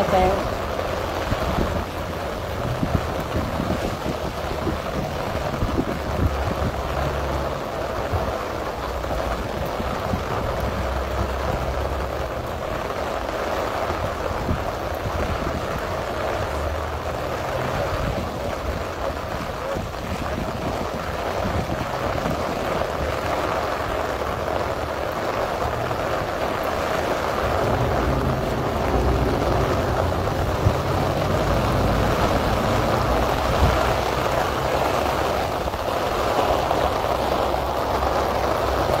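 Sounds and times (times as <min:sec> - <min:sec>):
heavy rain: 0:00.0 - 0:39.0
wind rumbling on microphone: 0:00.0 - 0:39.0.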